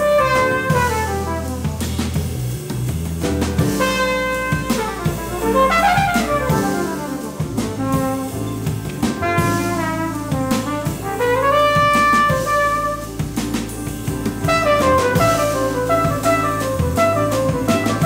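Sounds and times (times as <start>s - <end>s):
drum kit with cymbals: 0.0s - 18.0s
flugelhorn jazz solo: 0.0s - 18.0s.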